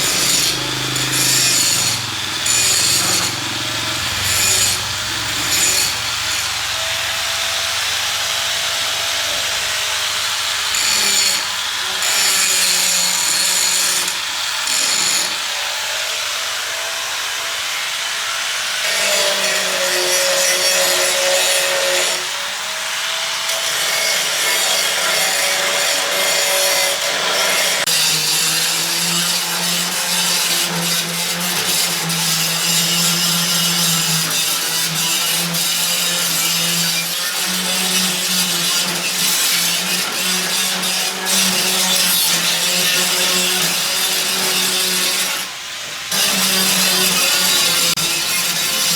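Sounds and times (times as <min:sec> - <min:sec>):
power tool cutting wood: 0:00.0 - 0:48.9.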